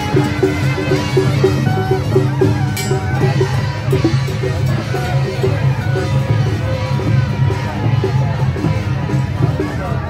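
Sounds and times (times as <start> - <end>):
traditional-style music: 0.0 - 10.0.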